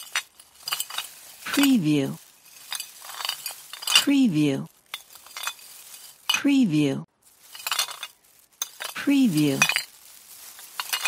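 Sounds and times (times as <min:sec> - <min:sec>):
glass bottles clinking: 0:00.0 - 0:01.8, 0:02.4 - 0:04.2, 0:04.8 - 0:06.5, 0:07.4 - 0:11.0.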